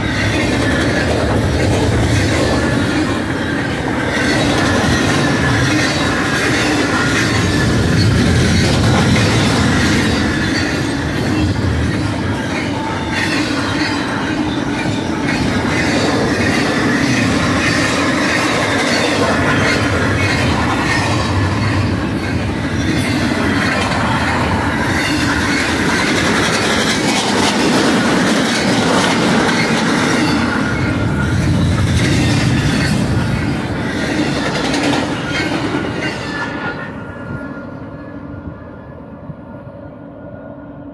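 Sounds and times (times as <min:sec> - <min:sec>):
freight train wheels rumbling: 0:00.0 - 0:40.9.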